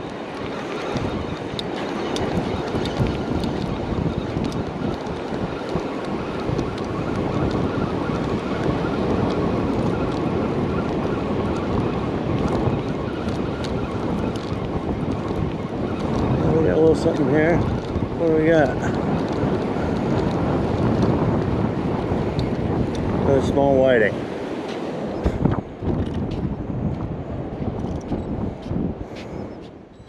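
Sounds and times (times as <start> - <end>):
ocean surf: 0.0 - 29.8
wind buffeting microphone: 0.0 - 30.0.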